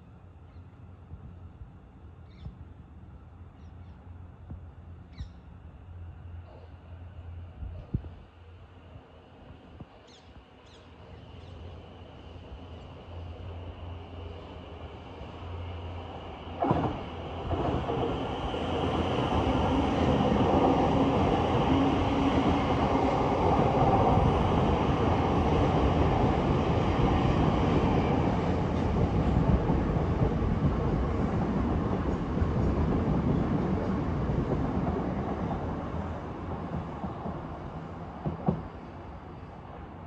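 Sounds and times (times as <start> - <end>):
train rumble and rail noise: 0.0 - 40.0.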